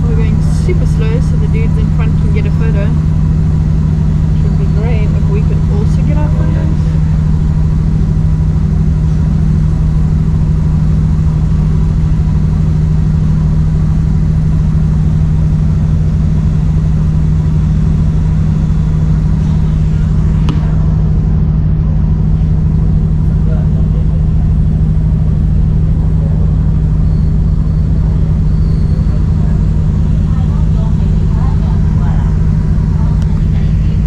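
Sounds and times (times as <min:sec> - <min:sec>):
diesel train engine and rolling drone: 0:00.0 - 0:34.0.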